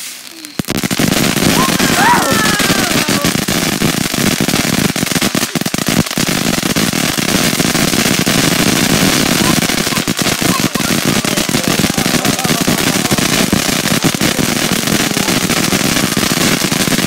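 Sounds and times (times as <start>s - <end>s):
firework hissing and crackling: 0.0s - 17.0s.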